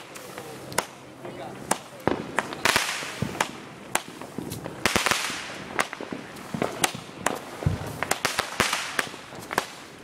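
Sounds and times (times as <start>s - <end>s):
fireworks banging and crackling: 0.0s - 10.0s.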